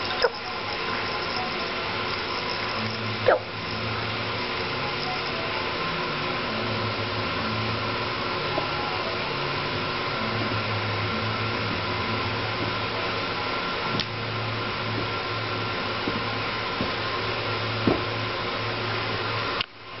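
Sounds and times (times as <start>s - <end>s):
low hum: 0.0s - 20.0s
room noise hiss: 0.0s - 20.0s.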